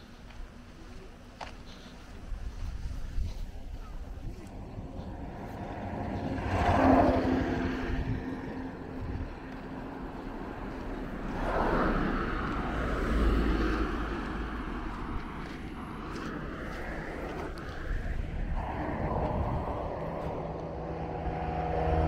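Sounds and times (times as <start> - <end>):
vehicles passing on street: 0.0 - 22.0.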